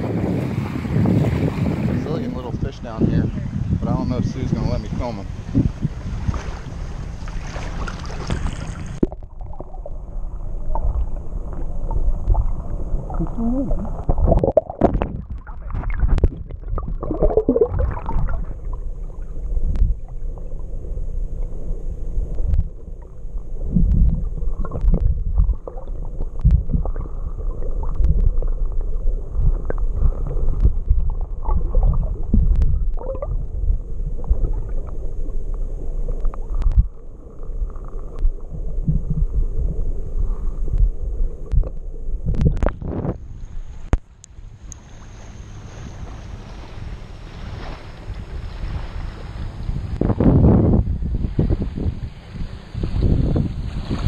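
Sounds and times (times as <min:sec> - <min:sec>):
muffled underwater sloshing: 0:00.0 - 0:54.0
water splashes: 0:00.0 - 0:54.0.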